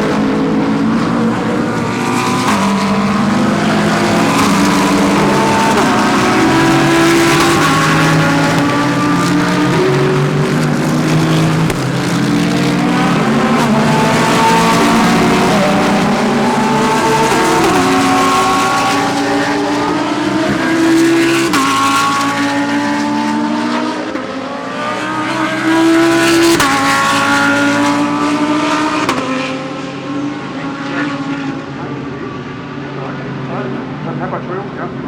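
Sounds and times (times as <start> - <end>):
race cars accelerating: 0.0 - 35.0.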